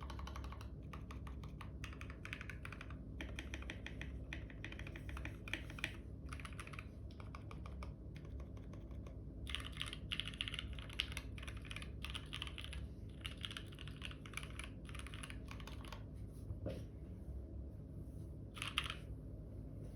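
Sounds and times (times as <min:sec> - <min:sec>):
typing on mechanical keyboard: 0:00.0 - 0:16.1, 0:18.6 - 0:19.1.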